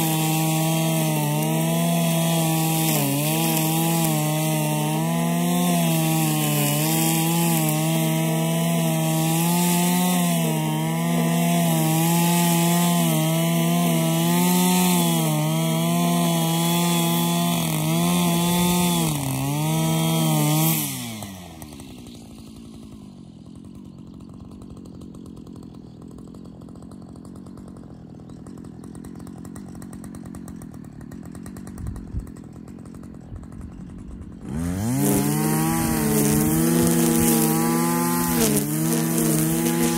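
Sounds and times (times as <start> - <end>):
brushcutter engine revving and idling: 0.0 - 39.9.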